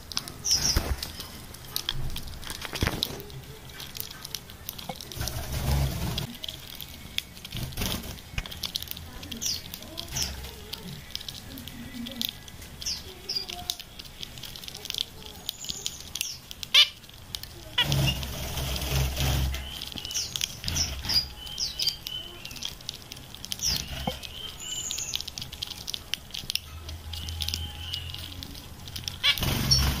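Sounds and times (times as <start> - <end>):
birds pecking and cracking seeds: 0.0 - 30.0.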